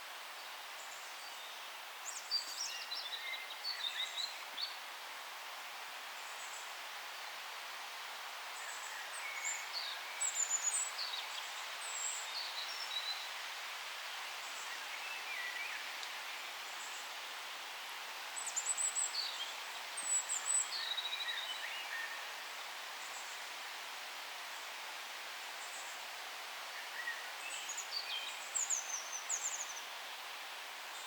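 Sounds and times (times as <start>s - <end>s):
steady forest hiss: 0.0s - 31.0s.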